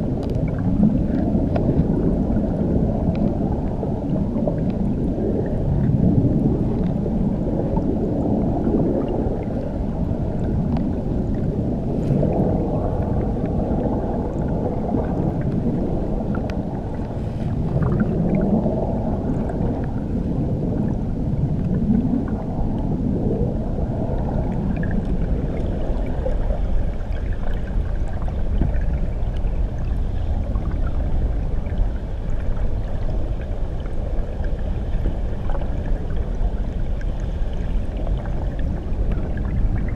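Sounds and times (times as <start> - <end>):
underwater waterfall rumble: 0.0 - 39.9.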